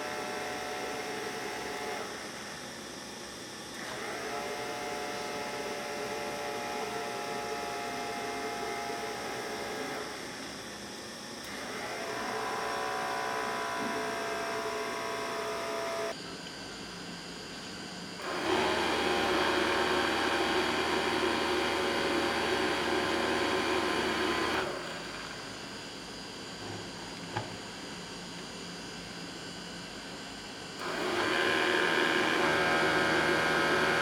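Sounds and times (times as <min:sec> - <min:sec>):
small motor fan whining: 0:00.0 - 0:34.0.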